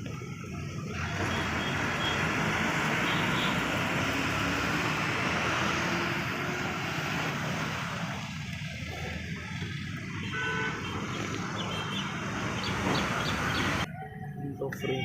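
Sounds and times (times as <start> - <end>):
motor vehicle noise: 0.0 - 15.0.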